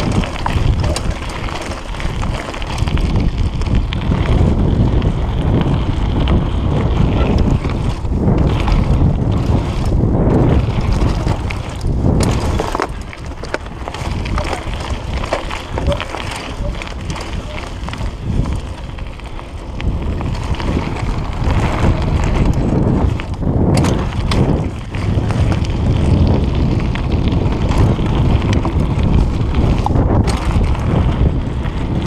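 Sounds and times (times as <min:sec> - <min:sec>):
mountain bike rumbling and rattling: 0:00.0 - 0:32.0
wind buffeting microphone: 0:00.0 - 0:32.0.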